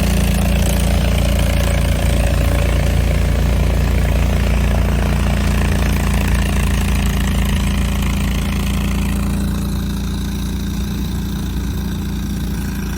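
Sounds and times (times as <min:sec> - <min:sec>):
loader engine running: 0:00.0 - 0:12.9.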